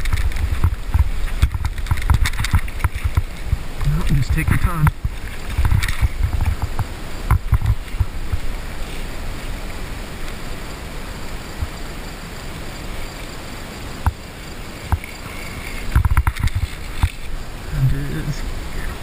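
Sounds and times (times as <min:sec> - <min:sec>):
water lapping against raft hull: 0:00.0 - 0:11.9, 0:12.8 - 0:17.8
wind on microphone: 0:00.0 - 0:19.0.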